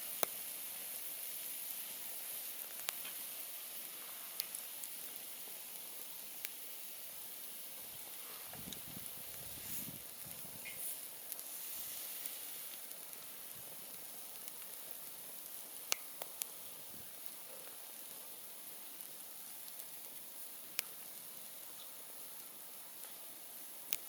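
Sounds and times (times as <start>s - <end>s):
campfire hissing: 0.0s - 24.0s
fire crackles and pops: 0.0s - 24.0s.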